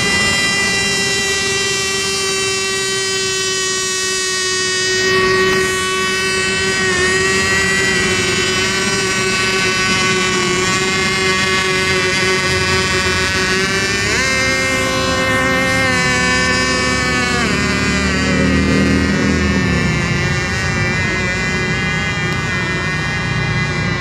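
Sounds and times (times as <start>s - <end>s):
model boat engines high revs: 0.0s - 24.0s.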